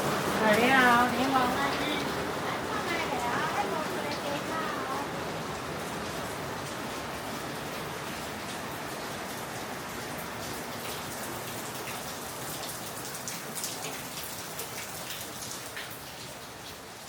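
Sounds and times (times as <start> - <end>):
raindrops striking close by: 0.0 - 17.0
steady rain falling: 0.0 - 17.0.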